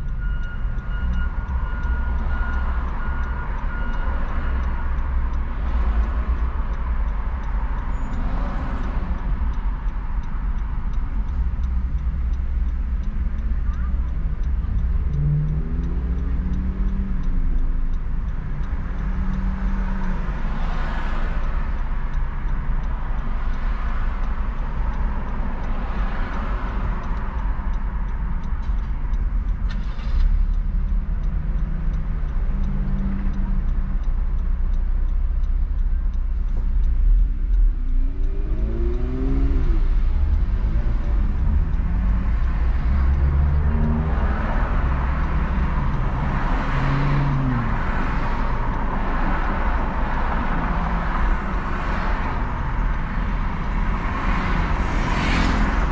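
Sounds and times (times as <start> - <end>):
car engine and road rumble: 0.0 - 55.9
passing traffic: 0.0 - 55.9.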